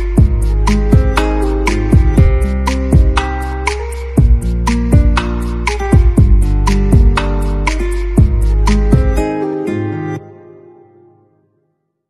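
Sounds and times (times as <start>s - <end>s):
background music: 0.0s - 11.5s.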